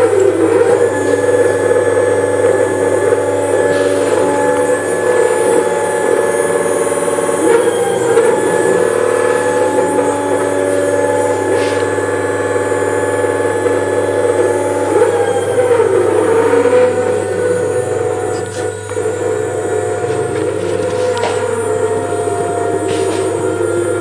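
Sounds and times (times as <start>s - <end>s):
electric scooter motor whining: 0.0s - 24.0s.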